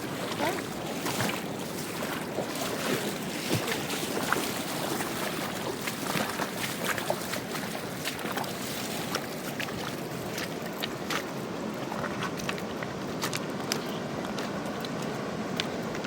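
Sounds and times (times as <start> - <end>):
river rushing: 0.0 - 16.0
small water splashes: 0.0 - 16.0.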